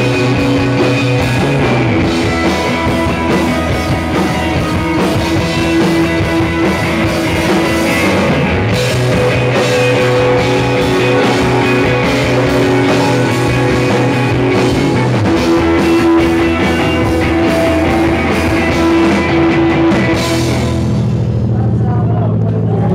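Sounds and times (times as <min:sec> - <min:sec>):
drum kit with cymbals: 0:00.0 - 0:21.6
bass guitar: 0:00.0 - 0:22.9
electric guitar: 0:00.0 - 0:22.9.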